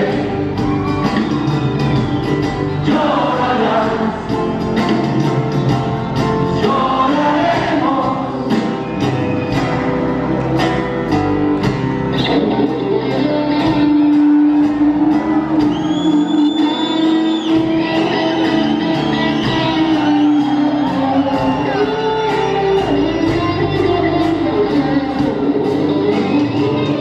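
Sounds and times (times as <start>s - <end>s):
bass: 0.0s - 27.0s
drums: 0.0s - 27.0s.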